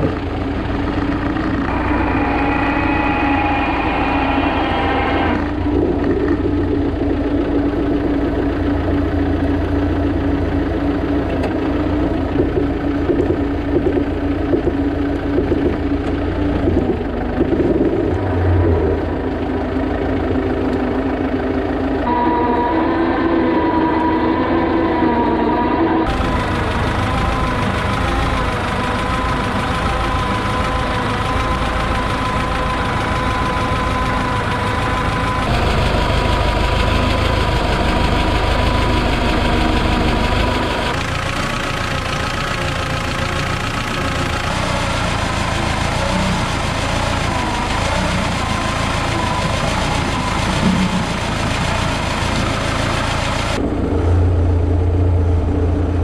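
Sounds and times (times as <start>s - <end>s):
bulldozer diesel engine running: 0.0s - 56.0s
high whine: 0.0s - 56.0s.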